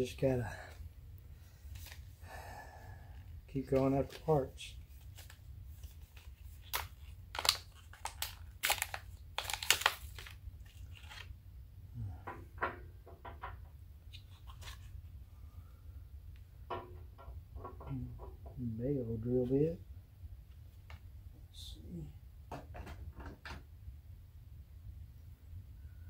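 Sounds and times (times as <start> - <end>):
steady low hum: 0.0 - 7.4, 9.0 - 22.5.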